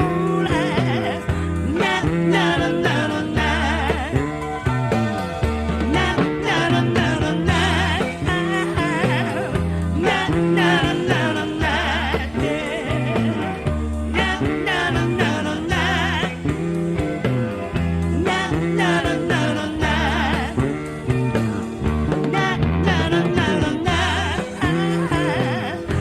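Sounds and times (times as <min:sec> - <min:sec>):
live rock band music: 0:00.0 - 0:26.0.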